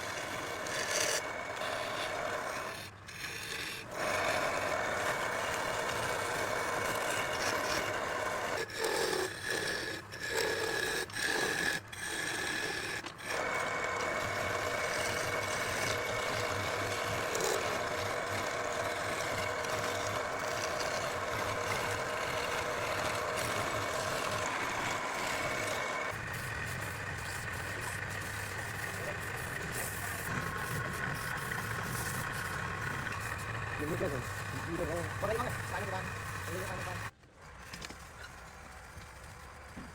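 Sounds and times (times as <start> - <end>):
wood lathe running: 0.0 - 37.1
turning tool cutting wood: 0.0 - 39.9.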